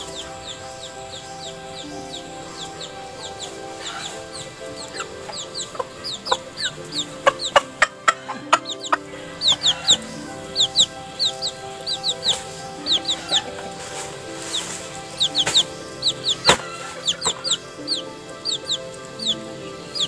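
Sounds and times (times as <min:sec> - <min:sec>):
background music: 0:00.0 - 0:20.0
chick peeping: 0:00.0 - 0:20.0
chickens clucking: 0:00.0 - 0:20.0.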